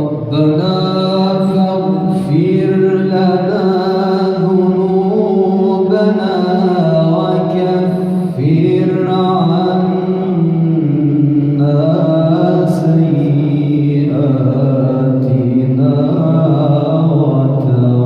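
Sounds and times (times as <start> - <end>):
man chanting melodically: 0.0 - 18.0.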